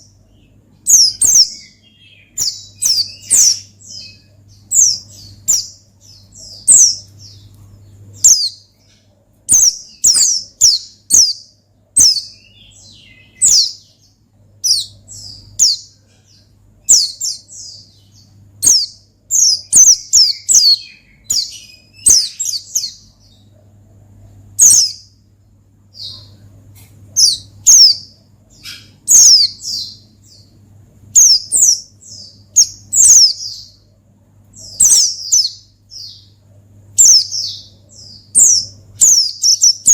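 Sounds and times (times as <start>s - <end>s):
bird singing high chirps: 0.0s - 23.5s, 24.6s - 25.2s, 27.2s - 33.9s, 34.5s - 39.9s
faint low hum: 0.0s - 39.9s.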